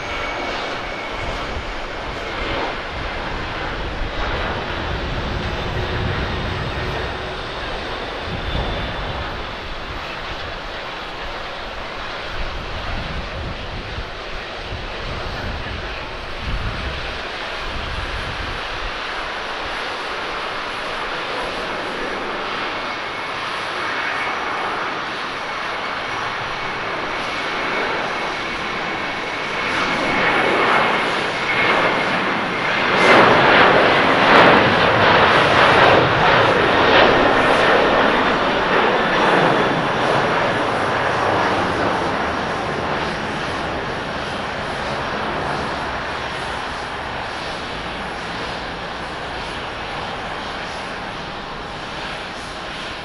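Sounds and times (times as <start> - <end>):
high jet whine: 0.0 - 53.0
jet engine roar: 0.0 - 53.0.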